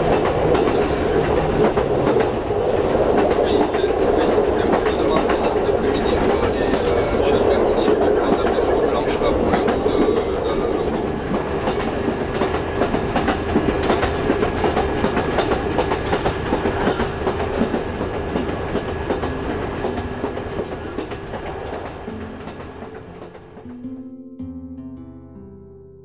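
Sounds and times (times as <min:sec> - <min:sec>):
diesel railcar drone: 0:00.0 - 0:23.6
wheels clicking over rail joints: 0:00.0 - 0:23.6.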